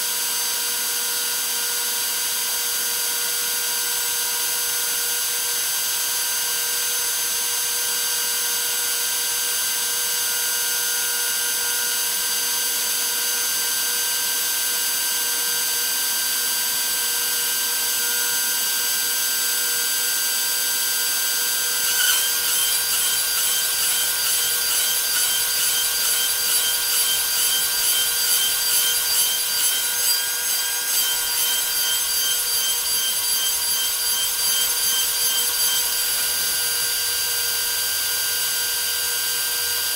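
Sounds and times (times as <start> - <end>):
router high whine: 0.0 - 39.9.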